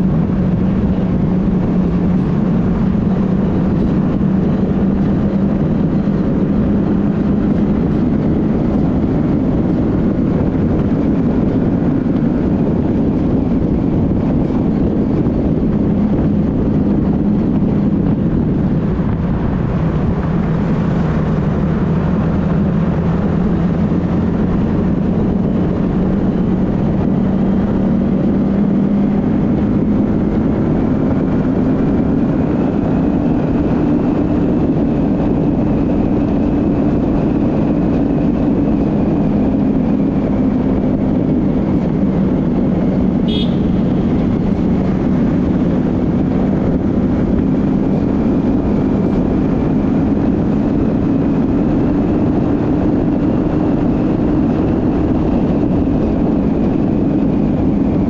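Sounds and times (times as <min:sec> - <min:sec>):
motorcycle engine cruising: 0:00.0 - 0:58.0
rushing wind: 0:00.0 - 0:58.0.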